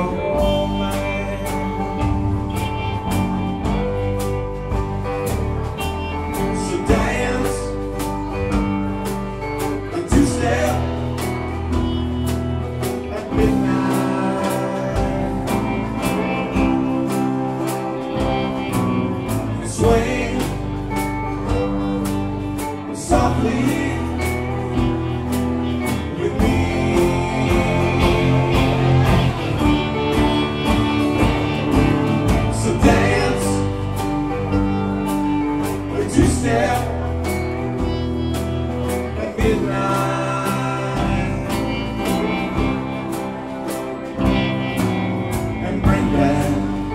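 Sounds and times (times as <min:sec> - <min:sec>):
man singing lead vocal: 0:00.0 - 0:02.8, 0:06.3 - 0:12.0, 0:12.6 - 0:29.8, 0:32.2 - 0:42.9, 0:45.5 - 0:46.9
drum kit steady beat: 0:00.0 - 0:46.9
rock band playing: 0:00.0 - 0:46.9.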